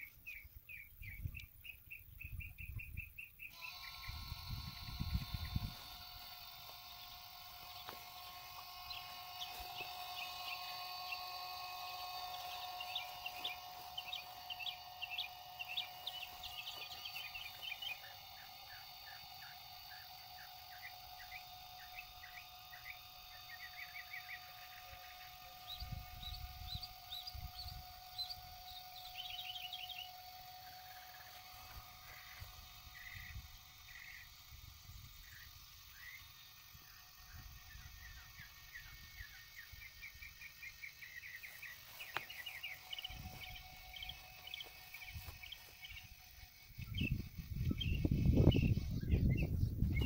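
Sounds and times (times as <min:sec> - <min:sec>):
faint steady hum: 0:00.0 - 0:50.0
small birds chirping: 0:00.0 - 0:50.0.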